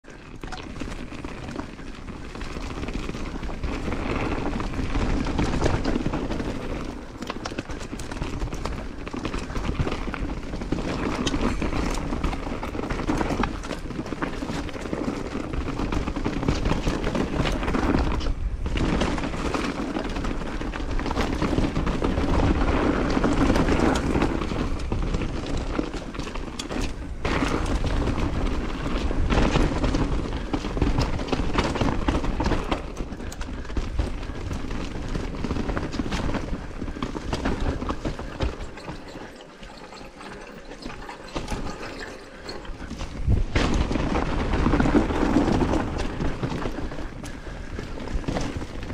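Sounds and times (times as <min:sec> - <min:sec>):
bike rattling: 0:00.0 - 0:48.9
bike tyres rumbling on dirt: 0:00.0 - 0:48.9.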